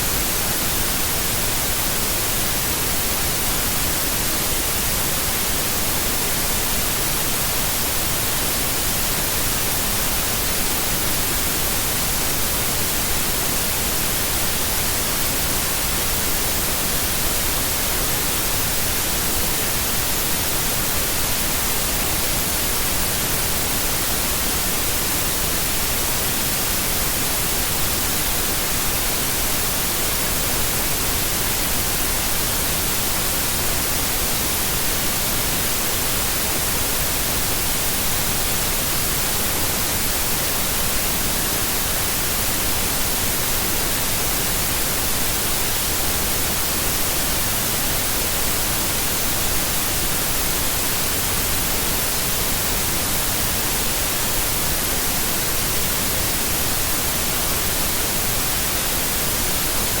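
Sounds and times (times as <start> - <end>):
steady white noise hiss: 0.0 - 60.0.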